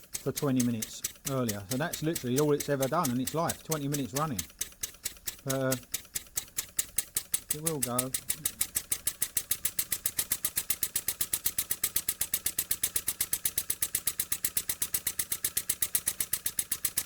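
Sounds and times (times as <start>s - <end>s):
model steam engine chuffing: 0.0s - 17.0s.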